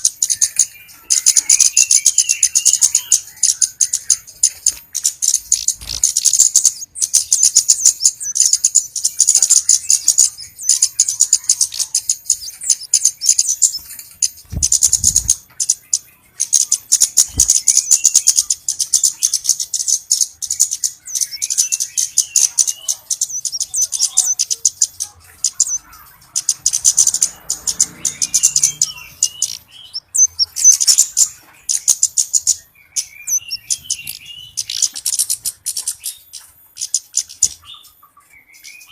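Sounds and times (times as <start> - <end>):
bird twittering: 0.0 - 38.9
rapid high-pitched bird ticking: 0.0 - 38.9.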